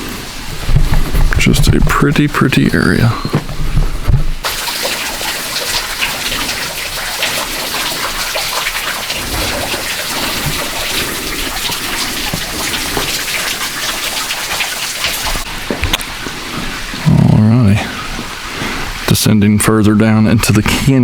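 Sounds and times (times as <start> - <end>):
falling water hiss: 0.0 - 19.5.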